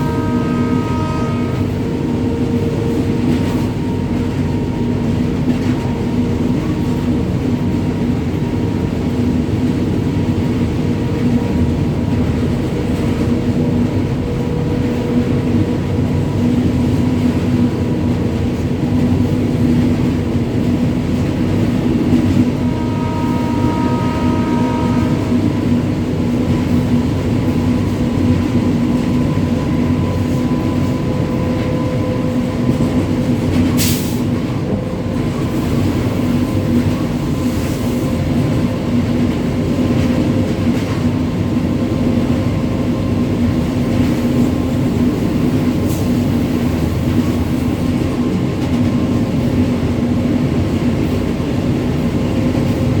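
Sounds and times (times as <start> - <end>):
electric locomotive rumble: 0.0 - 53.0.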